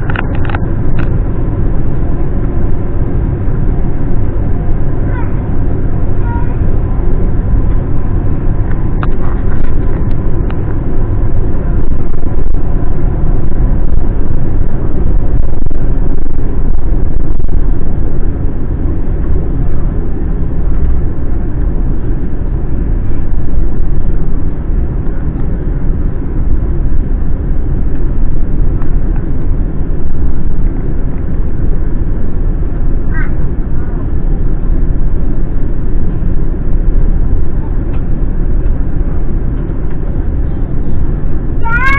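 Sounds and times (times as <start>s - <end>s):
aircraft cabin engine rumble: 0.0s - 41.9s.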